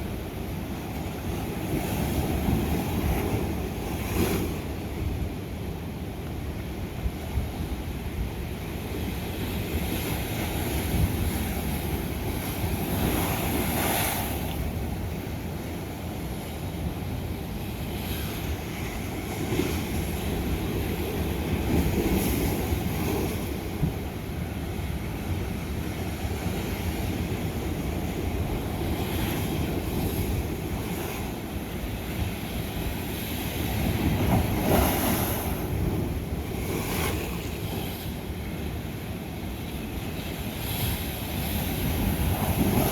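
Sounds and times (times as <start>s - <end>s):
ocean waves crashing on rock: 7.9s - 42.9s.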